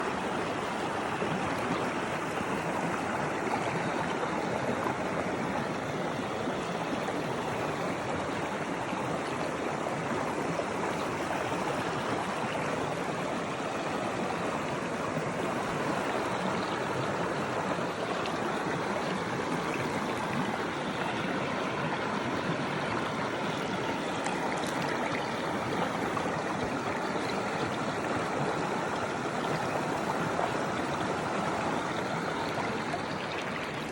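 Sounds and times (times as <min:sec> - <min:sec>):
stream running over rocks: 0:00.0 - 0:33.9.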